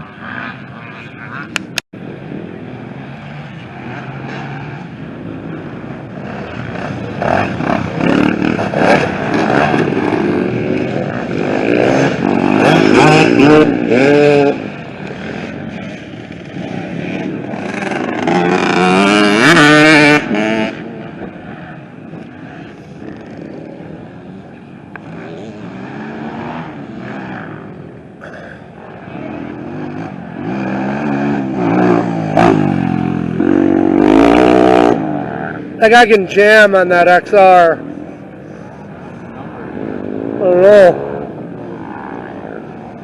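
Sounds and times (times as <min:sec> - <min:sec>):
dirt bikes revving past: 0:00.0 - 0:43.0.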